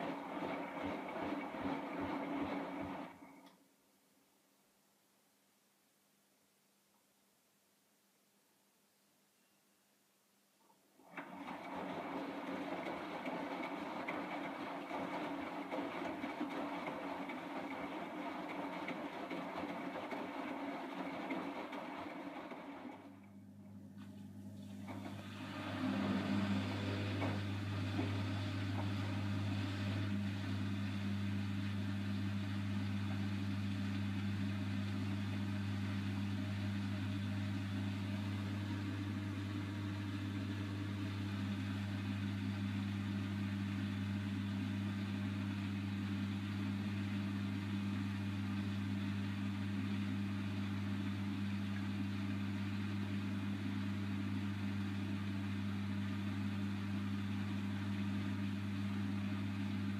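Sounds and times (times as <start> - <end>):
washing machine spinning: 0.0 - 3.3, 11.1 - 23.6, 24.6 - 59.9.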